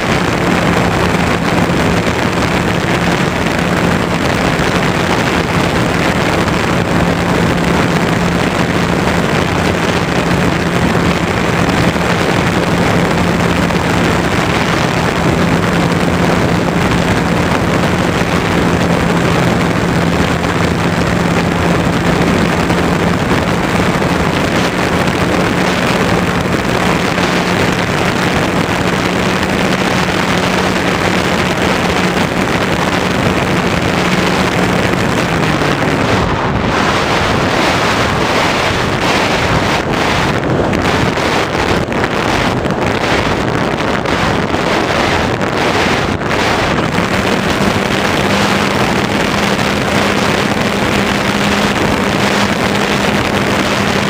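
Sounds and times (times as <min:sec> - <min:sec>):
electric motor and propeller hum: 0:00.0 - 0:54.0
wind rush over camera: 0:00.0 - 0:54.0.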